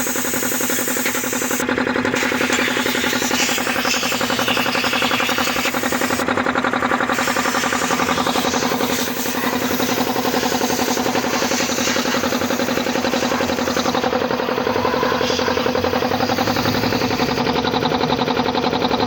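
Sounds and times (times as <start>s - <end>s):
air compressor running: 0.0s - 19.0s.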